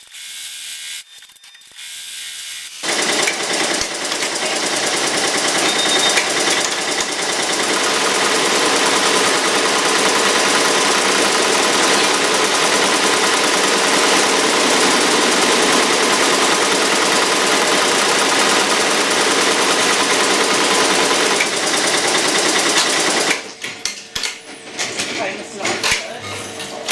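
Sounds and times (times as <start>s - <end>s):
embroidery machine rattling: 2.7s - 26.9s.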